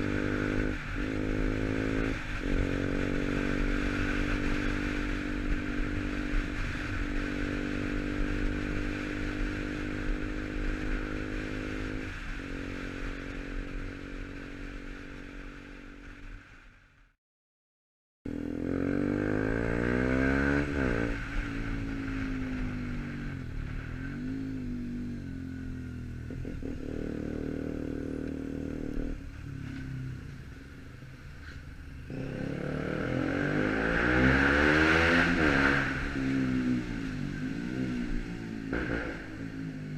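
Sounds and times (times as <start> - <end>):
motorcycle engine revving: 0.0 - 16.2, 18.3 - 39.9.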